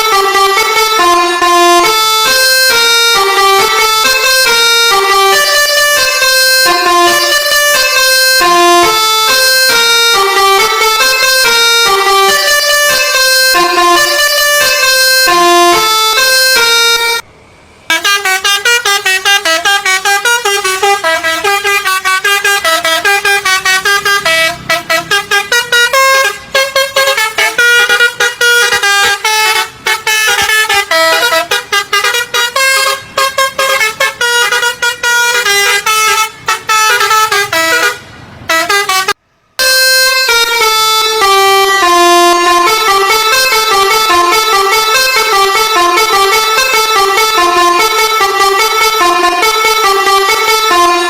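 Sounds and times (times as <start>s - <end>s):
musical air horn tune: 0.0s - 17.2s, 17.9s - 51.0s.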